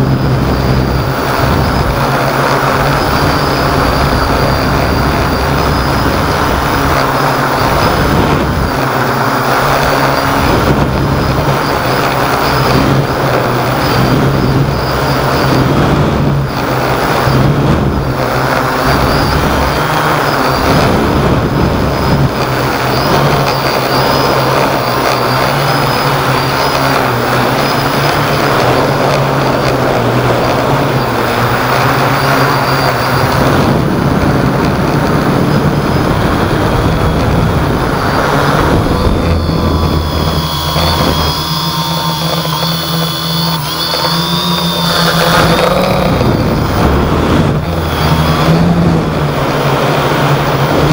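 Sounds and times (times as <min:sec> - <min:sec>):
drone propellers humming: 0:00.0 - 0:50.9
wind buffeting microphone: 0:00.0 - 0:50.9.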